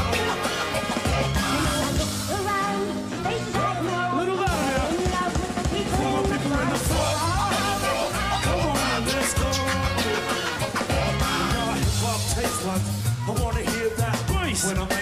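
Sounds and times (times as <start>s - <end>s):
bass guitar: 0.0s - 15.0s
drum kit groove: 0.0s - 15.0s
person singing: 0.0s - 15.0s.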